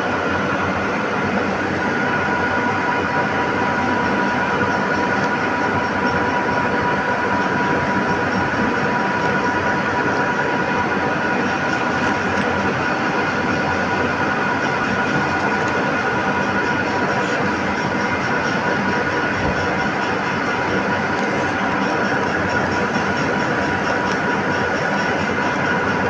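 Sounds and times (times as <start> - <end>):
machine running noise: 0.0 - 26.0.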